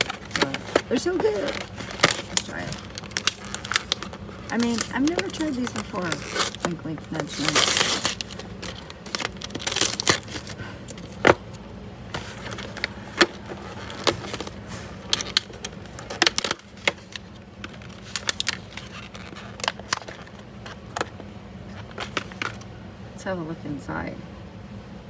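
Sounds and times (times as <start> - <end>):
snack packaging crackling: 0.0 - 22.6.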